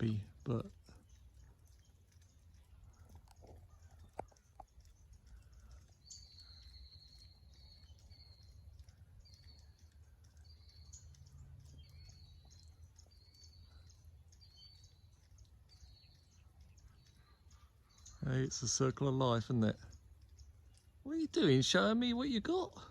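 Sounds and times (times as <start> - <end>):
low steady rumble: 0.0 - 21.1
small songbirds twittering: 0.0 - 22.9.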